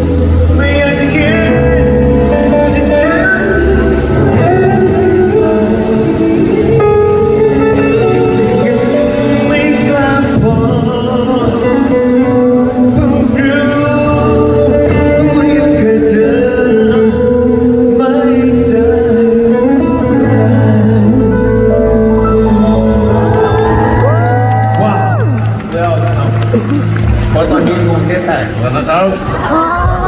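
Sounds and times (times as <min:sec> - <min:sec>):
person singing: 0:00.0 - 0:25.3
live band playing: 0:00.0 - 0:30.0.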